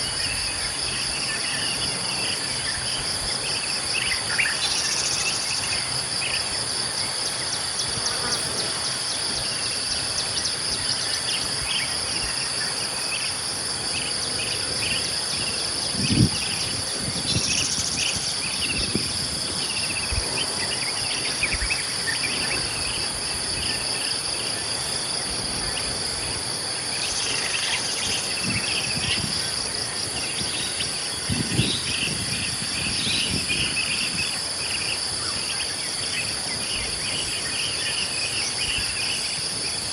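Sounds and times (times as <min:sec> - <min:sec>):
insect chorus shrilling: 0:00.0 - 0:39.9.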